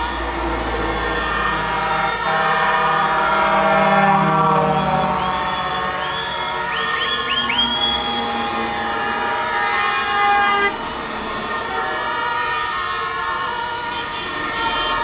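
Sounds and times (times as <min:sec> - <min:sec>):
fire engine sirens and horns: 0:00.0 - 0:15.0
heavy trucks driving past: 0:00.0 - 0:15.0.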